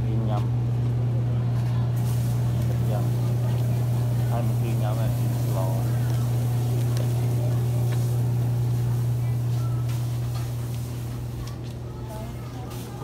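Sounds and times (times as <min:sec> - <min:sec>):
faint background voices: 0:00.0 - 0:13.0
low machine hum: 0:00.0 - 0:13.0.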